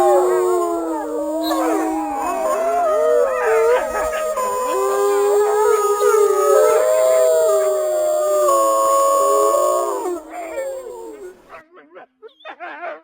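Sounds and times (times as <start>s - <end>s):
wolves howling: 0.0s - 11.6s.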